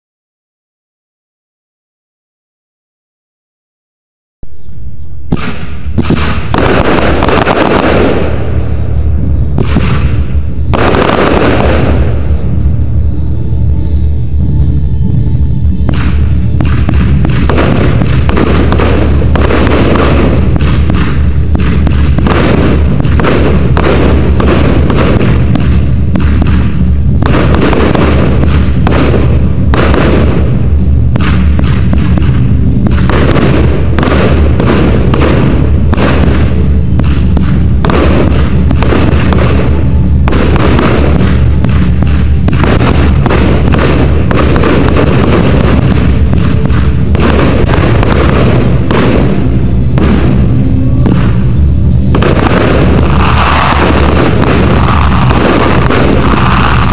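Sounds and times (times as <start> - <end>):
heavy low rumble: 4.4 - 56.9
fireworks bursting: 4.6 - 56.9.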